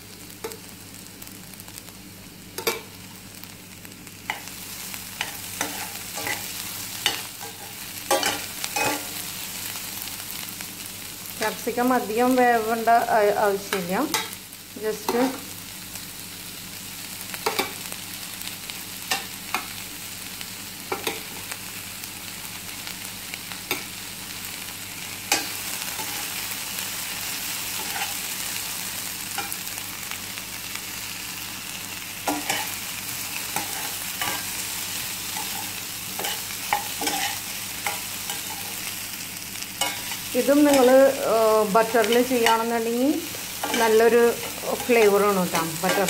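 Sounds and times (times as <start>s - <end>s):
vegetables sizzling in oil: 0.0s - 46.0s.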